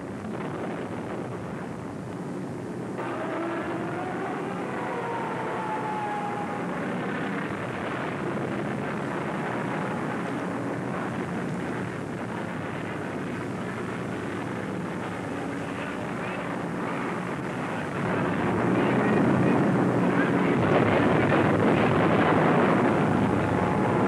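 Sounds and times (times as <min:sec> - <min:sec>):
aircraft engines droning: 0:00.0 - 0:24.0.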